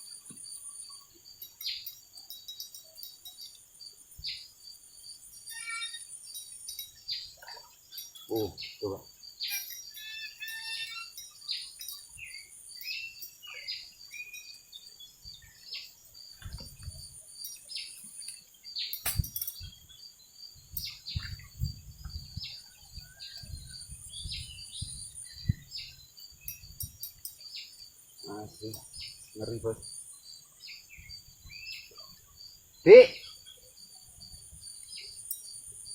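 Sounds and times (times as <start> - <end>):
birds chirping and calling: 0.0 - 33.6
high insect buzz: 0.0 - 35.9.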